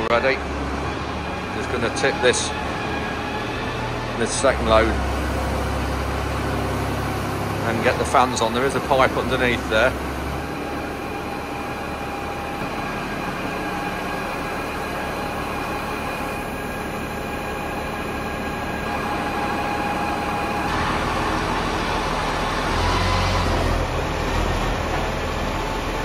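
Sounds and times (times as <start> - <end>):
diesel farm machinery running: 0.0 - 26.0
steady machine whine: 0.0 - 26.0.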